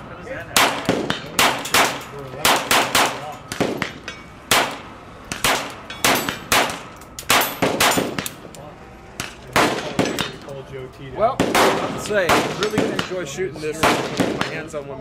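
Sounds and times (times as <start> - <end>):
pistol shots: 0.6 - 8.4, 9.2 - 10.4, 11.4 - 14.7.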